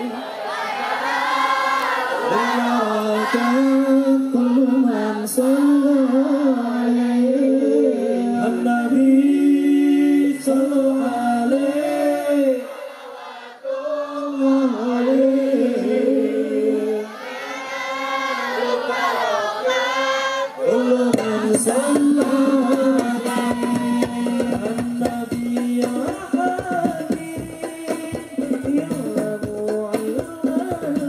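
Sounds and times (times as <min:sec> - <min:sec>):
voices singing devotional melody: 0:00.0 - 0:31.0.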